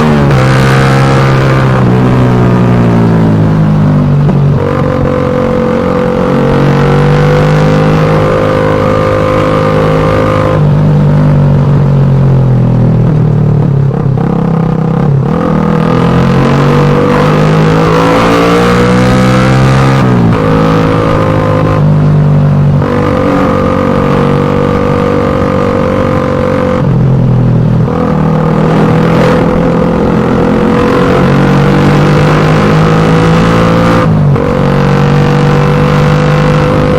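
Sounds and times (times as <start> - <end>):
motorcycle engine revving hard: 0.0 - 36.9.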